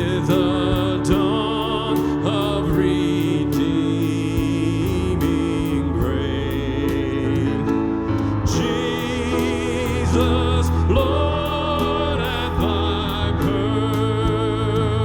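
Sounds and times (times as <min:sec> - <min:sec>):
instrumental accompaniment: 0:00.0 - 0:15.0
person singing with vibrato: 0:00.0 - 0:15.0.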